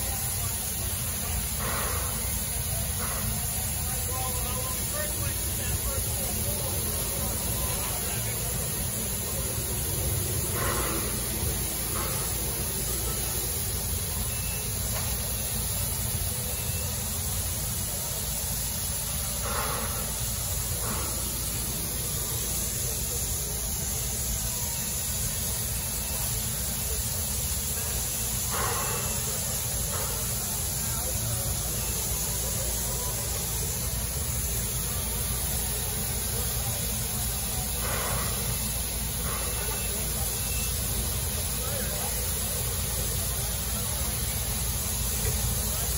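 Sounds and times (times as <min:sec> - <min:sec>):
locomotive hissing steam: 0:00.0 - 0:45.9.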